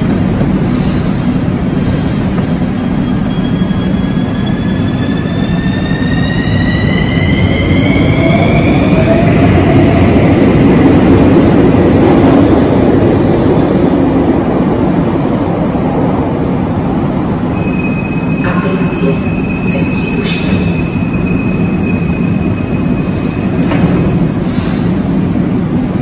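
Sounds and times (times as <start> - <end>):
train rail rumble: 0.0 - 26.0.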